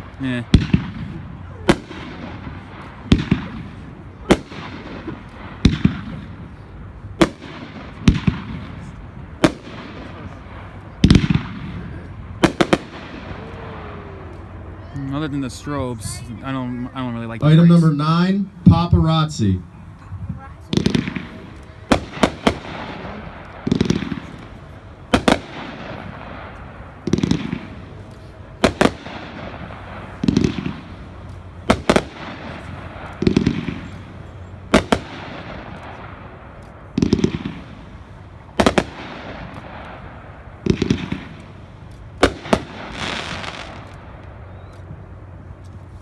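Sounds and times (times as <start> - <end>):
firework bursting cracks: 0.0 - 14.6, 19.9 - 46.0
crackling hiss: 0.0 - 46.0.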